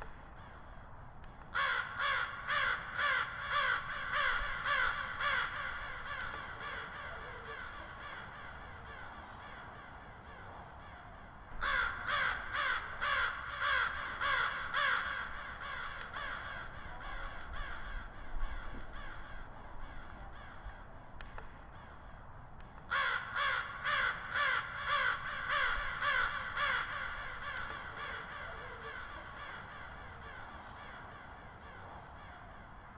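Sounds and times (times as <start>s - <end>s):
crows cawing: 0.3s - 0.9s, 1.5s - 22.3s, 22.9s - 32.9s.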